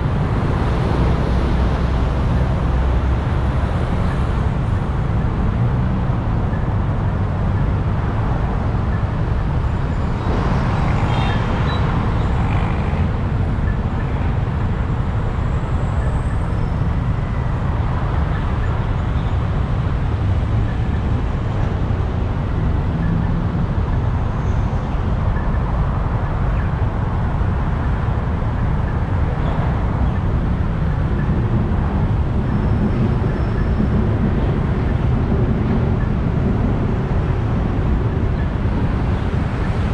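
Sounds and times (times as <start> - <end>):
motorbike engine and road rumble: 0.0 - 39.9.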